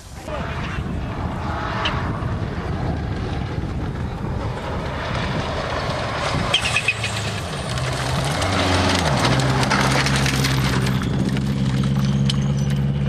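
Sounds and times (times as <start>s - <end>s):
rally car engine: 0.1s - 13.0s.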